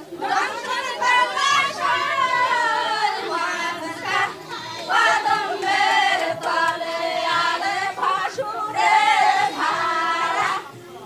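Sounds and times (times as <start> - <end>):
women singing unaccompanied: 0.0 - 11.0.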